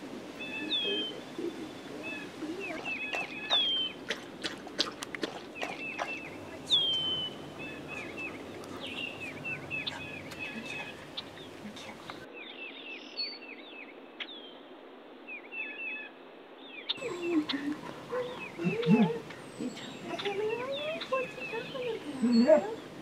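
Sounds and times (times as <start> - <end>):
birds chirping: 0.0 - 14.6, 15.3 - 23.0.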